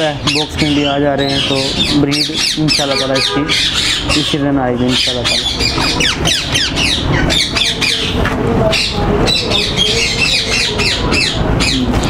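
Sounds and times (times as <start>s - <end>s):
parakeets screeching: 0.0s - 12.0s.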